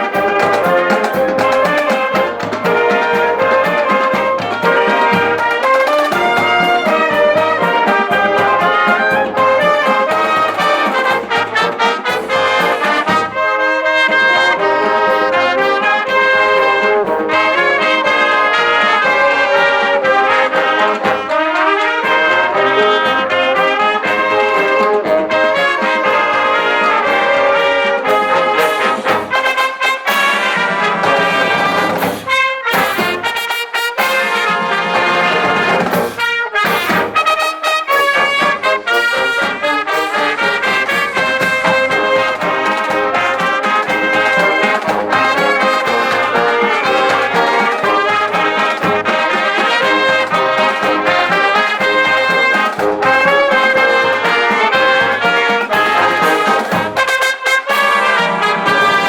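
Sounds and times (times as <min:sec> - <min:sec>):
marching band playing: 0:00.0 - 0:59.0
steady drum beat: 0:00.0 - 0:59.0
trumpets and trombones melody: 0:00.0 - 0:59.0.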